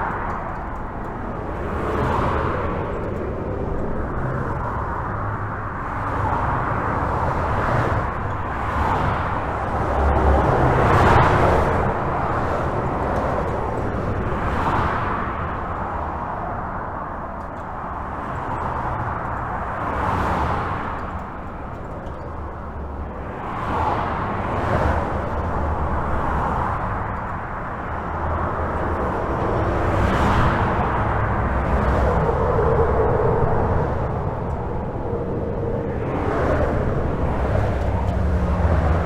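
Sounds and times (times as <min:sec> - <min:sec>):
highway traffic hum: 0:00.0 - 0:39.0
vehicles passing: 0:00.0 - 0:39.0.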